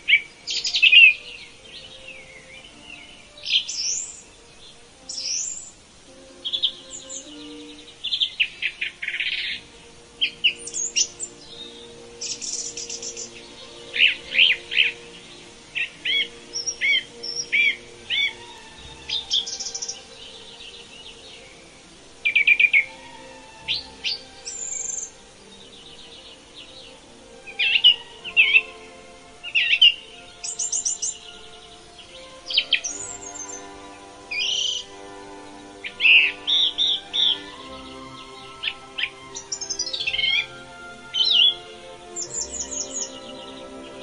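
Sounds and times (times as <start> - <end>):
soft music bed: 0.0 - 44.0
songbirds chirping and trilling: 0.0 - 44.0.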